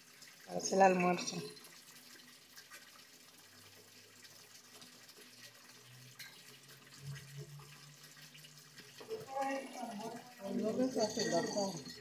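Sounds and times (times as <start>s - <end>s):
water dripping and splashing: 0.0s - 12.0s.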